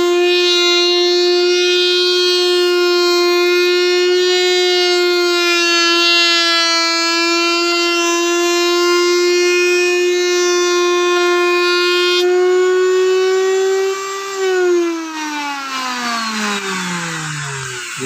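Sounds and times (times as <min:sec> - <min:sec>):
router motor spinning down: 0:00.0 - 0:18.0
wood router whining: 0:00.0 - 0:18.0.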